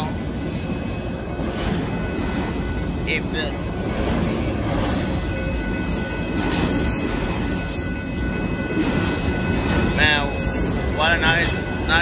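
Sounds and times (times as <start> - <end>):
faint high wheel squeal: 0.0 - 12.0
train wheels rumbling on rail: 0.0 - 12.0.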